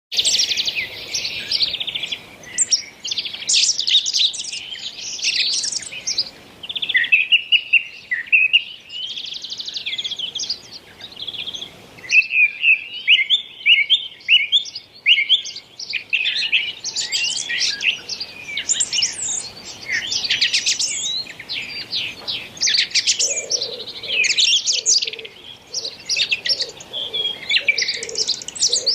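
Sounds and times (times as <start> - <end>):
songbird singing: 0.1 - 28.9.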